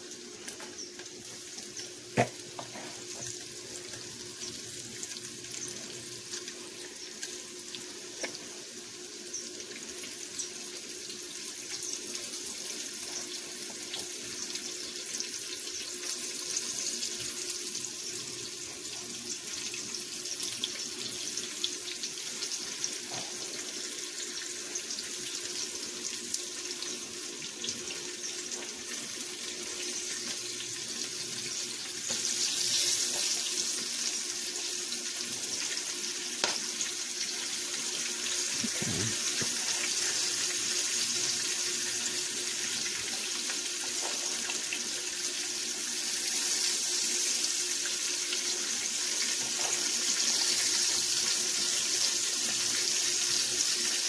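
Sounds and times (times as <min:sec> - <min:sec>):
meat sizzling in oil: 0:00.0 - 0:54.0.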